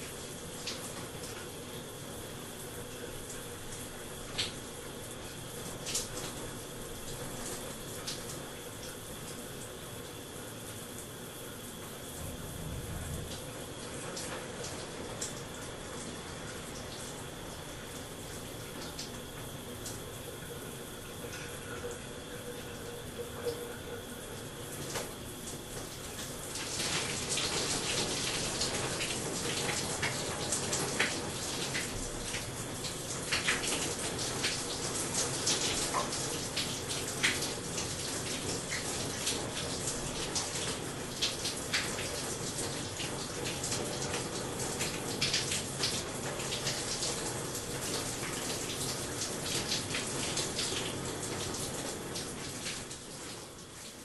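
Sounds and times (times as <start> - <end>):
shower water running: 0.0 - 54.0.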